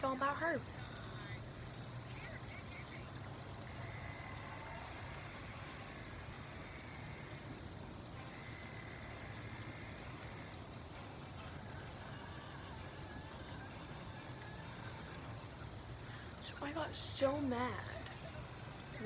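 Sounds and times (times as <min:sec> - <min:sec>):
low hum: 0:00.0 - 0:19.0
rain hissing: 0:00.0 - 0:19.0.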